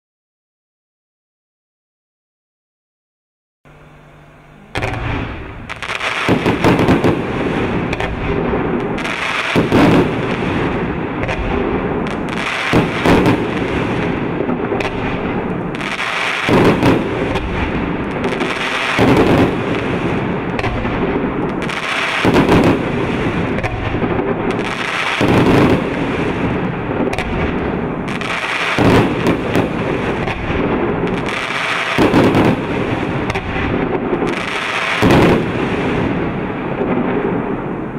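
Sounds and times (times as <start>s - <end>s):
fireworks launching and bursting: 4.7s - 37.9s.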